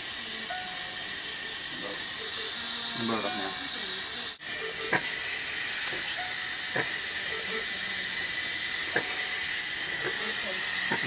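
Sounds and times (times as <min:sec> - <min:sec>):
oxygen hissing: 0:00.0 - 0:11.0.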